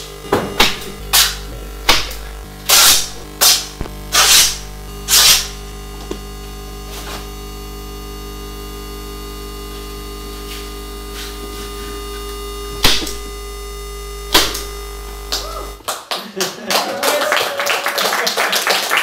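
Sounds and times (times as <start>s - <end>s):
electronic drone with hum: 0.0s - 15.8s.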